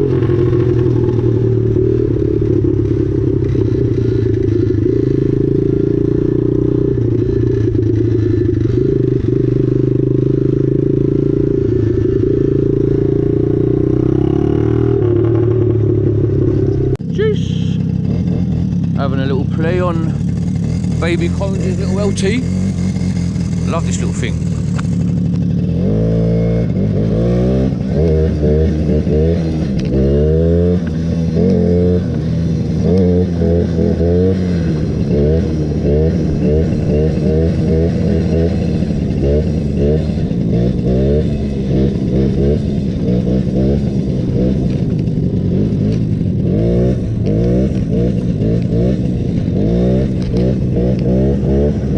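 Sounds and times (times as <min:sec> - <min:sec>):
mini-bike engine running: 0:00.0 - 0:14.1, 0:17.1 - 0:30.2, 0:30.8 - 0:51.9.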